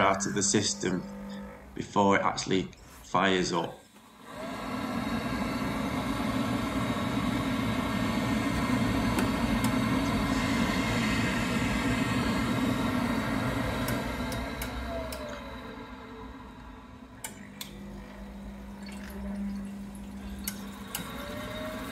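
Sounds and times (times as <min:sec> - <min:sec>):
boiler pump whirring hum: 0:00.0 - 0:21.9.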